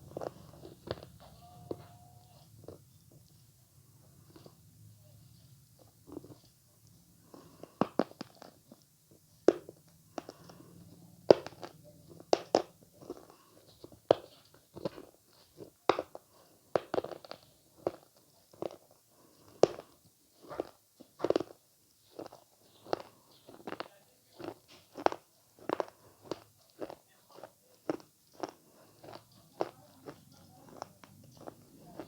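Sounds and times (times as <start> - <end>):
biting and chewing: 0.0 - 32.0.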